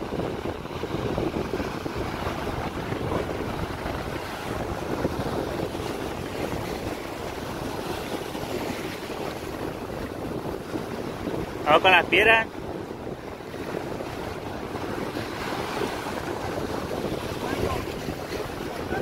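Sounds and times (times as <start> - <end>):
surf breaking: 0.0 - 19.0
wind buffeting microphone: 0.0 - 19.0.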